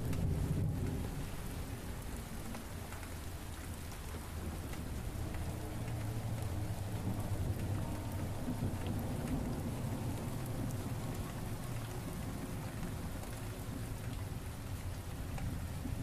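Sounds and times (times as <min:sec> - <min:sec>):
distant thunder rumble: 0:00.0 - 0:16.0
steady rain: 0:00.0 - 0:16.0.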